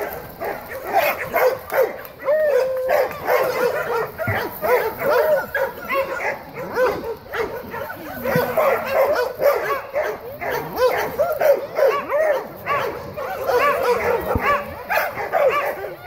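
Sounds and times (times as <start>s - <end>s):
dogs whining and yipping: 0.0s - 16.0s.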